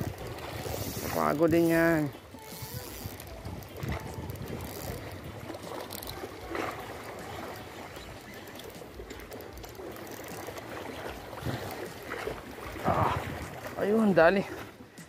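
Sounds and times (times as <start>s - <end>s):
water lapping against rocks: 0.0s - 15.0s.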